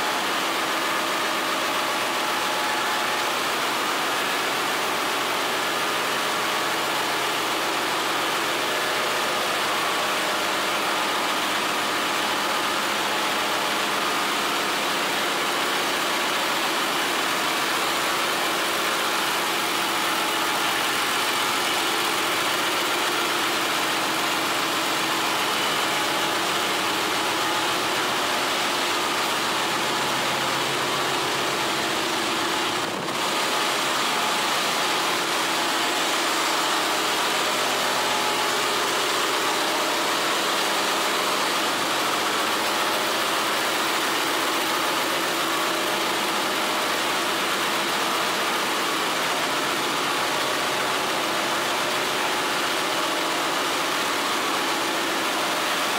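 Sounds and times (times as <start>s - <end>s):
diesel engines and machinery: 0.1s - 55.9s.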